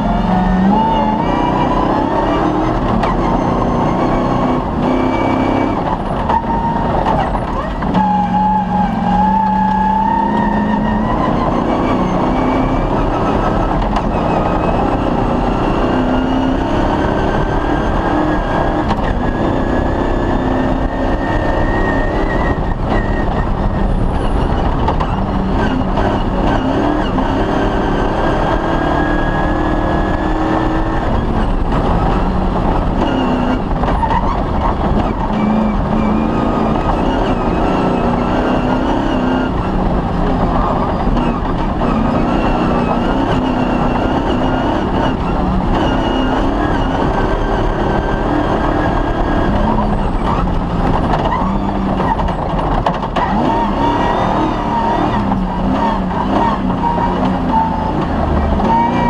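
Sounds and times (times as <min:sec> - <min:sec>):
rally car engine whining: 0:00.0 - 0:59.0.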